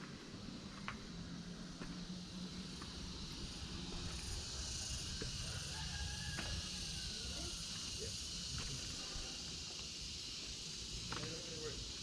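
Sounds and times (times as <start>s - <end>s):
high-pitched insect hiss: 0.0s - 12.0s.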